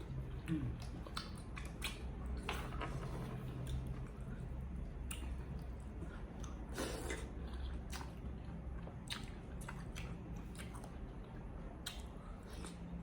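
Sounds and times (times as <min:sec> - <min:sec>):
person chewing and crunching food: 0:00.0 - 0:02.6, 0:03.5 - 0:13.0.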